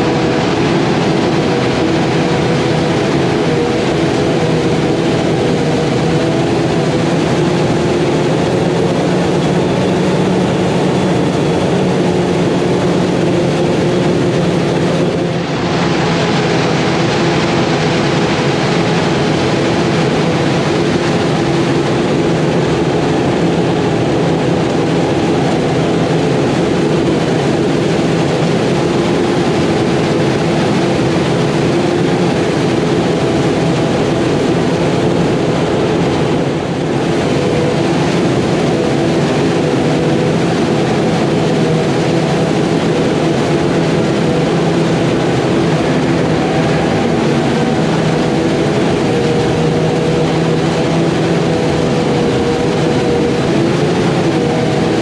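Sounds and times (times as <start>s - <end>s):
harvester machine drone: 0.0s - 55.0s.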